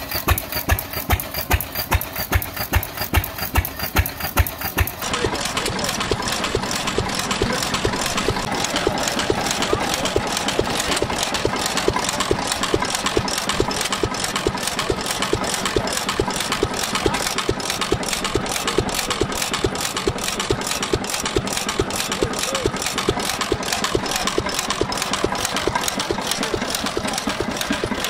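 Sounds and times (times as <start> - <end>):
single-cylinder engine running: 0.0 - 28.0.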